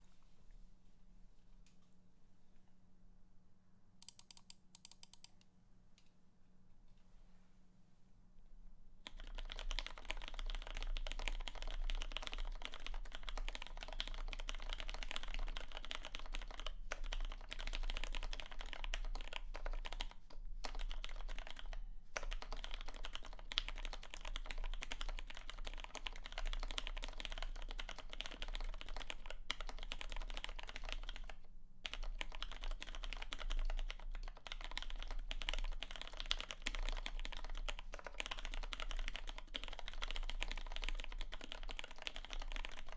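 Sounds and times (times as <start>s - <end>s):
mechanical keyboard typing: 4.0s - 5.4s, 9.0s - 42.9s.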